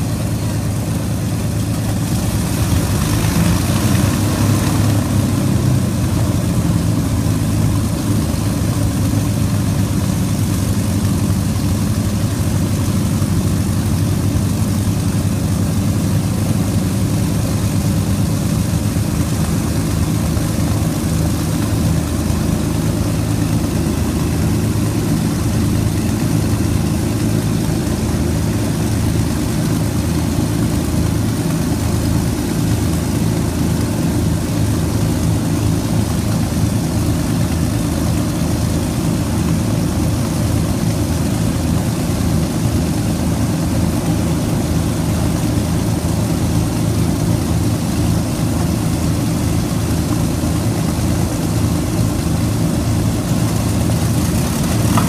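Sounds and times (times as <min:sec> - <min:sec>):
aircraft engines rumbling: 0:00.0 - 0:55.0.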